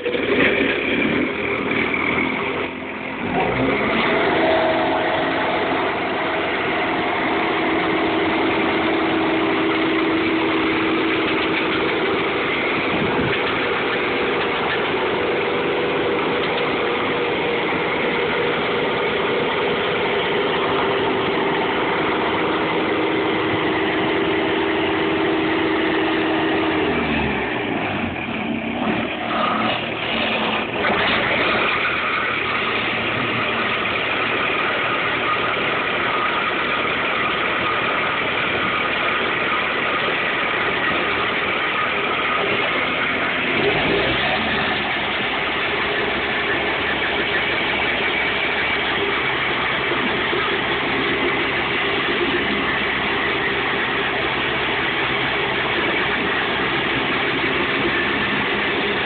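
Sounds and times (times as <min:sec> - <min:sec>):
stump cutter engine whining: 0:00.0 - 0:59.0.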